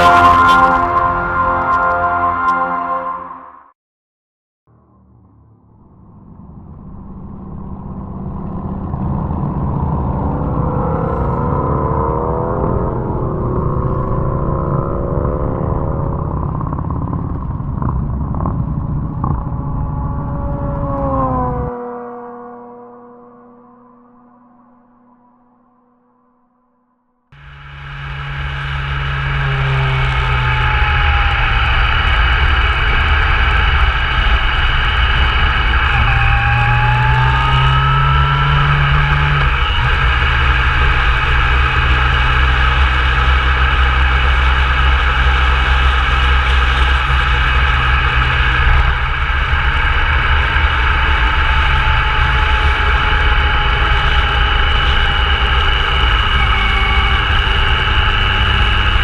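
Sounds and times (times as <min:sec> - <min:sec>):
motorcycle engine running: 0:04.8 - 0:24.1, 0:27.4 - 0:59.0.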